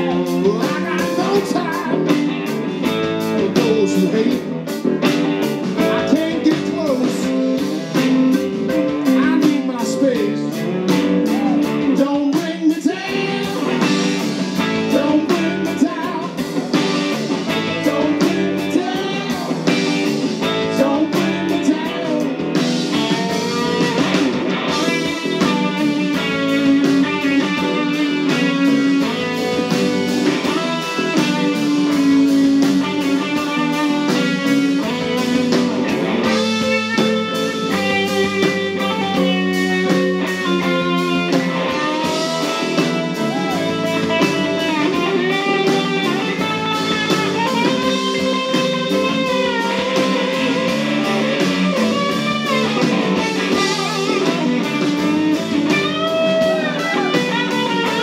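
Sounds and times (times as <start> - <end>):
bass guitar: 0.0 - 58.0
drum kit: 0.0 - 58.0
electric guitar lead: 0.0 - 58.0
keyboard: 0.0 - 58.0.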